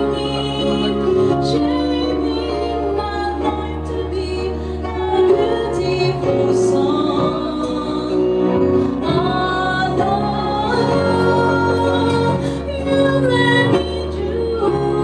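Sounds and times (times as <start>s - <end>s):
instrumental accompaniment with bass: 0.0s - 15.0s
woman singing: 0.0s - 15.0s.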